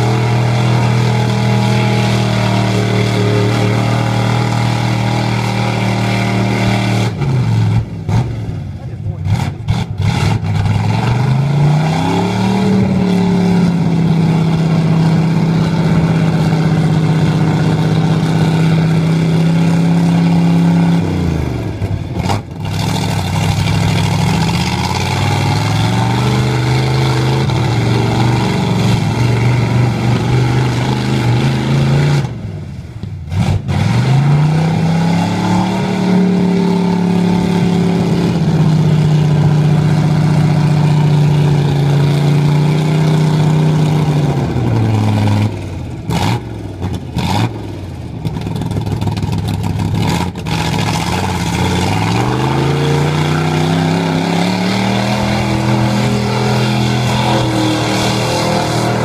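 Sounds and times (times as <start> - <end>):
truck driving through mud: 0.0 - 59.0
truck engine revving: 0.0 - 59.0.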